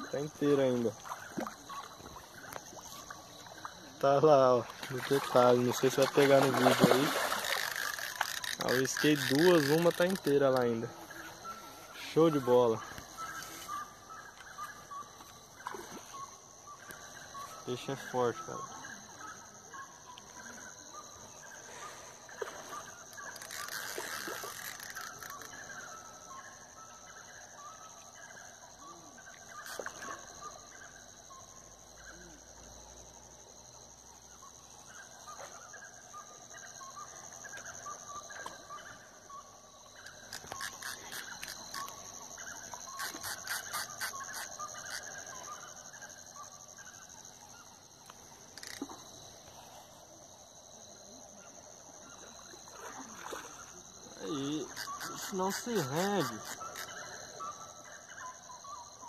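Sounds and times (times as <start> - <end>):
high-pitched insect drone: 0.0 - 27.8, 28.7 - 59.0.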